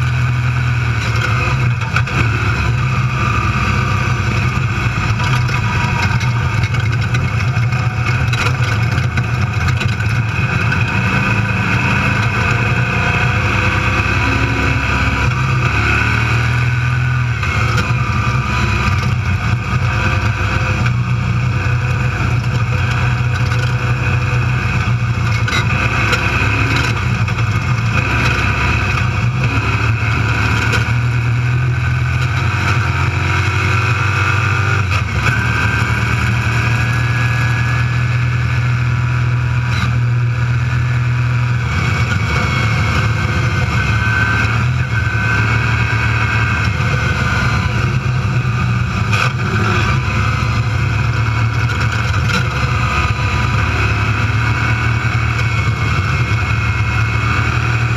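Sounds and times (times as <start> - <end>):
engine running hard: 0.0 - 57.9
tyre and chassis noise: 0.0 - 57.9.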